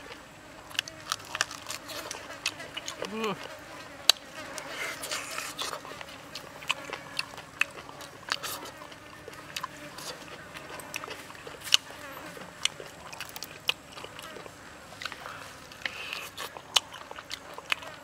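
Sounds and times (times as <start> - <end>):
crunching and chewing chicken: 0.0 - 18.0.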